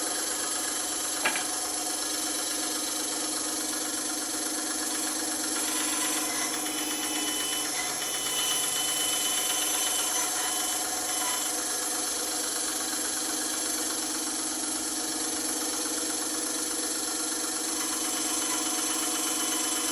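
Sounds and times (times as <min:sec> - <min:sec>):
bandsaw running: 0:00.0 - 0:19.9.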